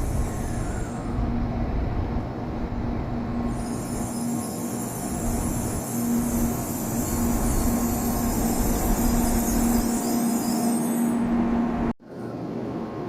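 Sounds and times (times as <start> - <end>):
train running noise with hiss: 0.0 - 13.0.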